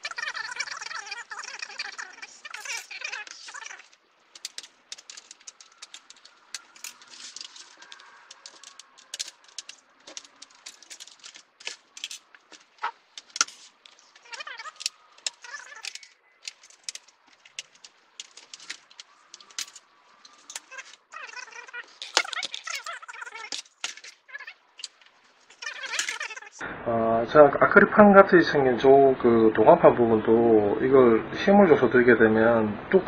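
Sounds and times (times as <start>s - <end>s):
plastic sheets clicking and rattling: 0.0s - 26.6s.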